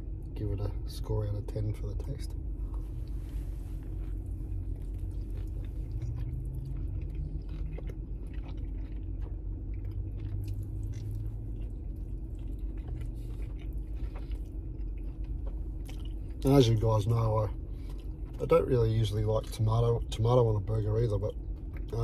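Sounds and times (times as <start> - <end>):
steady low hum: 0.0 - 22.0
person chewing a burger: 2.3 - 22.0.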